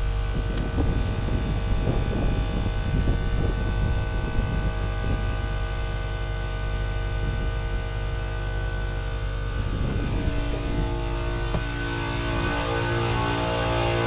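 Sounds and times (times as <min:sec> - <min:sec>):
machine droning: 0:00.0 - 0:14.0.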